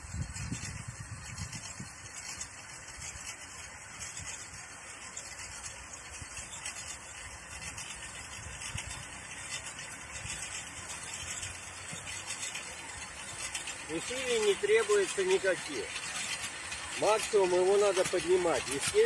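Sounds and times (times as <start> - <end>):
electric cultivator running: 0.0 - 19.0.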